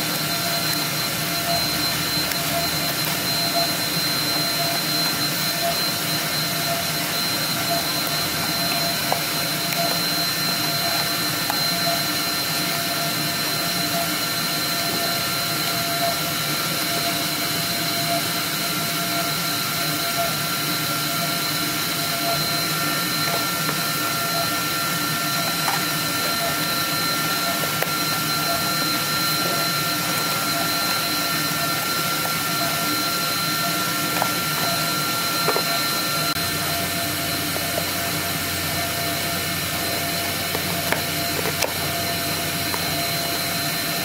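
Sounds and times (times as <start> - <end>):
blower hiss with high whine: 0.0 - 44.0.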